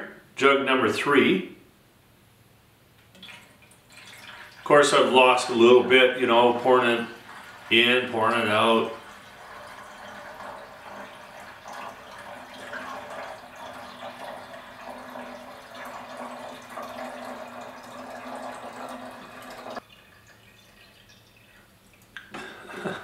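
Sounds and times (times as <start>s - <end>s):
liquid pouring into metal tank: 3.2s - 22.8s.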